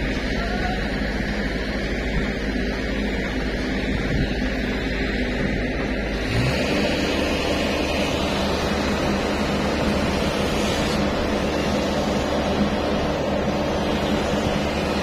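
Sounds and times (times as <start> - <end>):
machine engine drone: 0.0 - 15.0.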